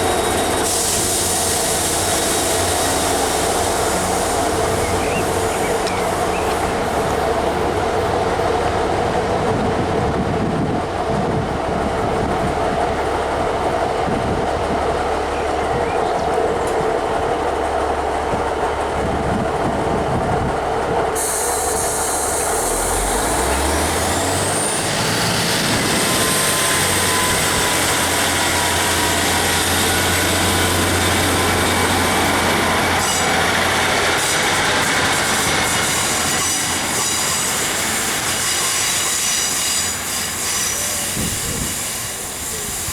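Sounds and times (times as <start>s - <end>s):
diesel train engine: 0.0s - 42.9s.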